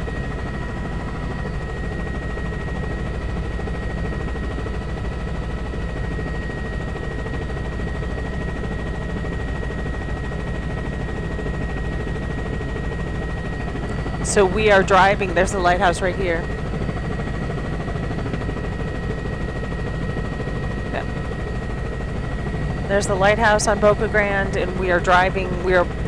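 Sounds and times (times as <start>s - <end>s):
helicopter rotor and engine: 0.0s - 26.0s
high engine whine: 0.0s - 26.0s.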